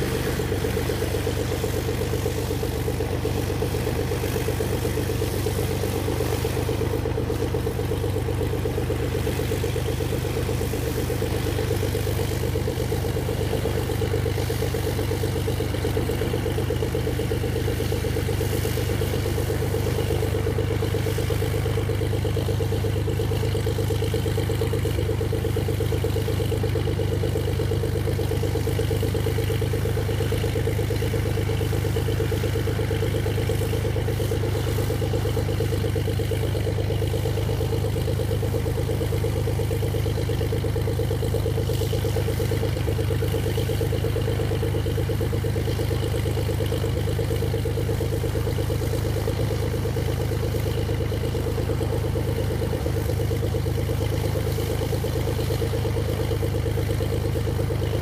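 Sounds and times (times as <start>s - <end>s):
propeller plane engine idling: 0.0s - 58.0s.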